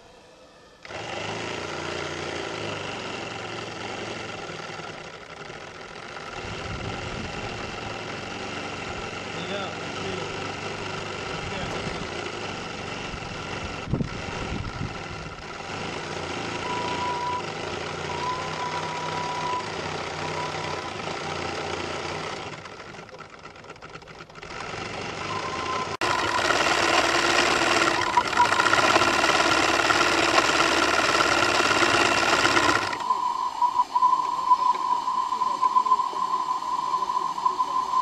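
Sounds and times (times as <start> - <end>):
small steam engine running: 0.0 - 38.0.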